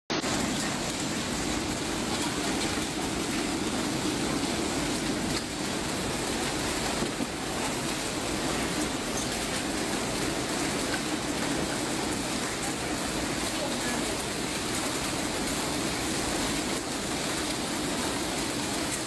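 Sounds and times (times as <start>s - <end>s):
heavy rain and hail on a roof: 0.1s - 19.0s
water splashing onto the floor: 0.1s - 19.0s.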